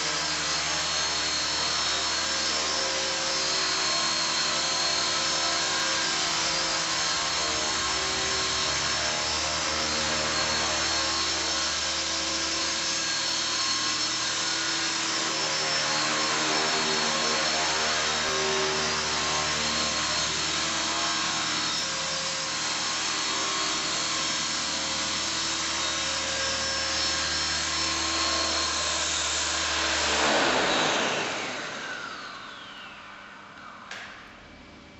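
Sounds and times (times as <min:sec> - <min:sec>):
model helicopter motor whine: 0:00.0 - 0:33.9.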